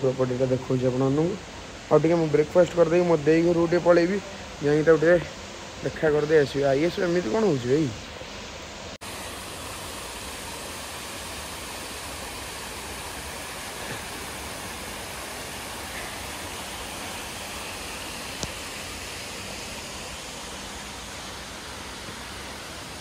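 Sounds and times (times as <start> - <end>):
waterfall rushing into pool: 0.0 - 8.2, 8.8 - 23.0.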